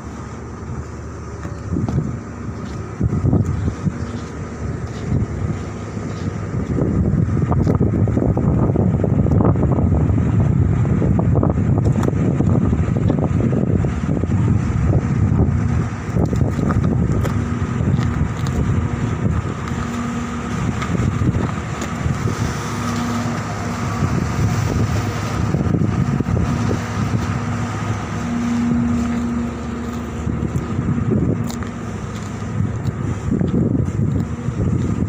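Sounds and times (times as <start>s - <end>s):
diesel engines rumbling: 0.0s - 35.0s
humming tone: 0.0s - 35.0s.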